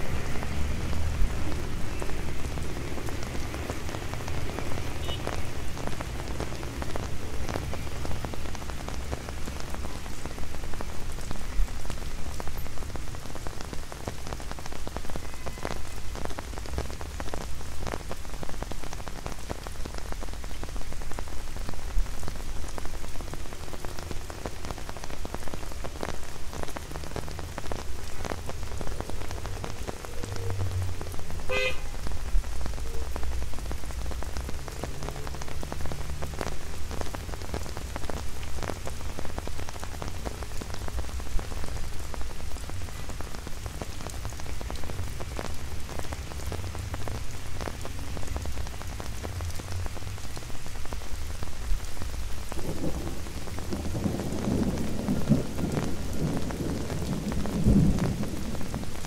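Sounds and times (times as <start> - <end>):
rain tapping on umbrella: 0.0 - 59.0.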